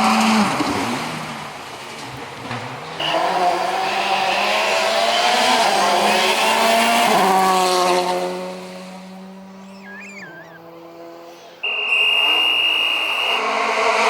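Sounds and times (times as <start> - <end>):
rally car passing at full throttle: 0.0 - 14.0.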